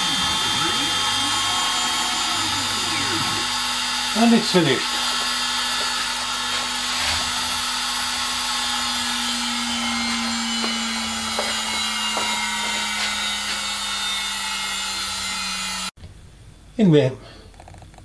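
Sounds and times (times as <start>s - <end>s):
bit rasping into wood: 0.0s - 15.4s
router spindle whine: 0.0s - 15.9s.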